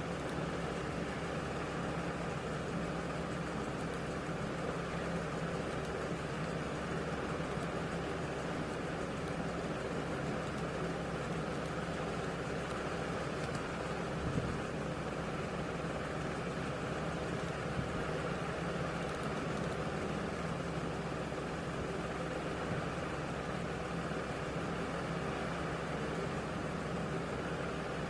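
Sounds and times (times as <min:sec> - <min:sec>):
room noise hum and hiss: 0:00.0 - 0:28.0.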